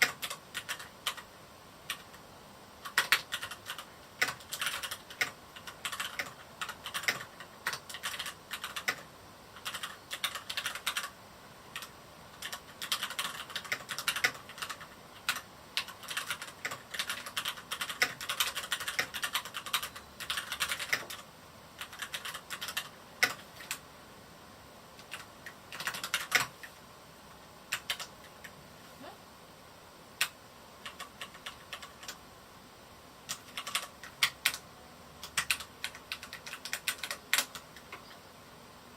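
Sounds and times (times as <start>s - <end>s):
mechanical keyboard typing: 0.0s - 1.3s, 1.9s - 2.2s, 2.8s - 23.8s, 25.0s - 26.7s, 27.7s - 28.6s, 30.2s - 32.2s, 33.3s - 34.6s, 35.2s - 38.1s.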